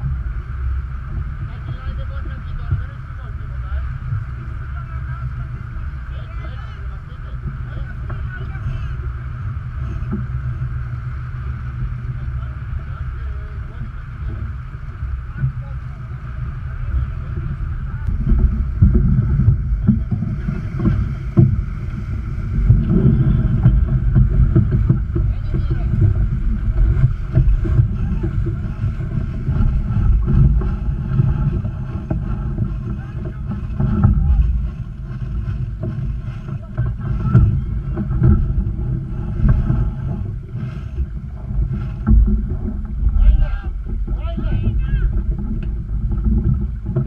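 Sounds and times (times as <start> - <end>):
water rushing along hull: 0.0 - 47.0
wind buffeting microphone: 0.0 - 47.0.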